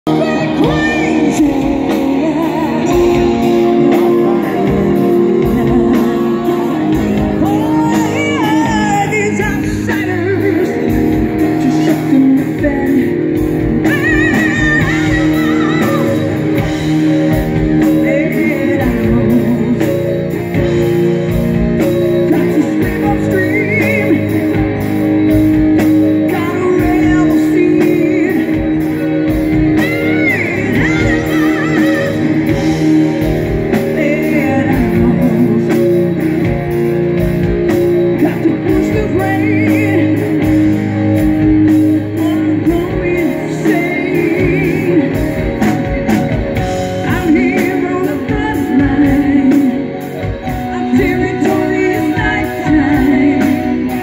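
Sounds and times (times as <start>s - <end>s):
bass guitar: 0.0s - 54.0s
distorted electric guitars: 0.0s - 54.0s
drum kit: 0.0s - 54.0s
woman singing: 0.1s - 25.4s, 26.1s - 36.8s, 37.7s - 54.0s.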